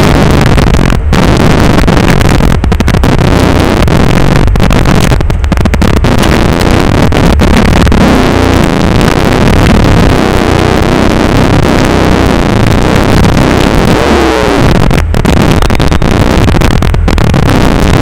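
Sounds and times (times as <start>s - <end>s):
distorted car engine: 0.0s - 18.0s.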